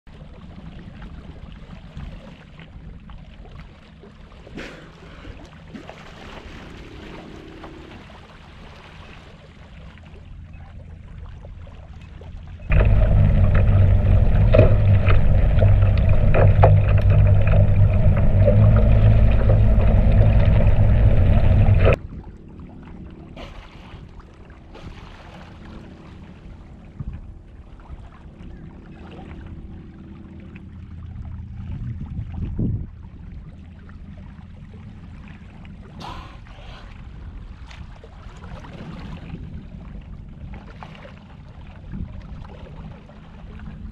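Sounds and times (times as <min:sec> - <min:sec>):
faint water sounds: 0:00.1 - 0:43.9
muffled underwater rush: 0:00.2 - 0:43.9.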